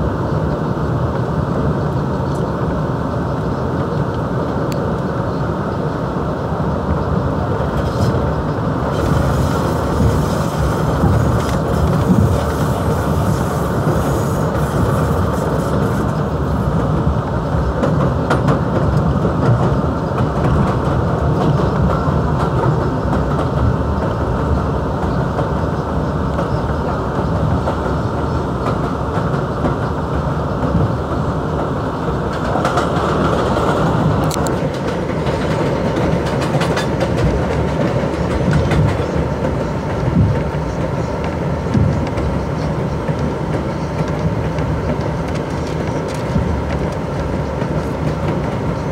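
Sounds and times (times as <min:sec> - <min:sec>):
subway wheels on rails: 0:00.0 - 0:48.9
train passing alongside: 0:00.0 - 0:48.9.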